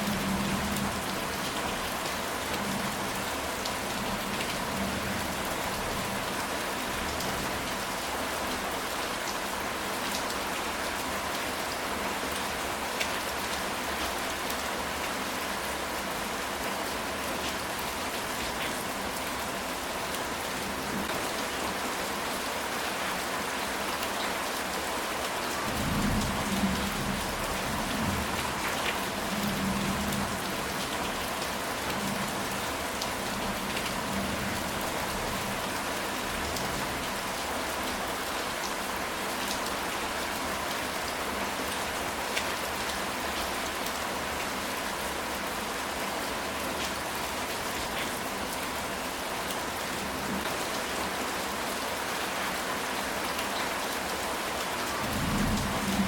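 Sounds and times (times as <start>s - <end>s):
rain on tile roof: 0.0s - 56.0s.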